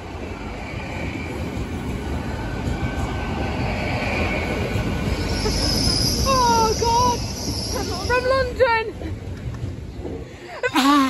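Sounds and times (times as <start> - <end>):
train rumbling over rails: 0.0 - 10.8.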